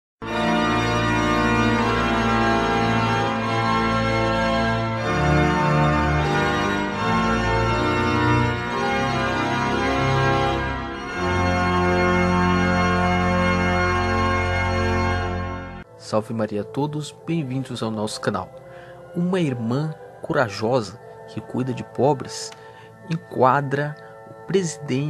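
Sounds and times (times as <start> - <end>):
organ chords: 0.2 - 25.0.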